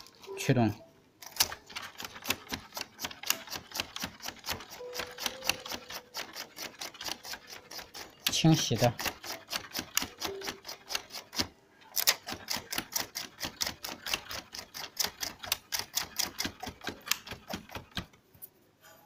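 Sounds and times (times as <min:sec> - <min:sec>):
printer gear clicking: 0:01.2 - 0:18.2.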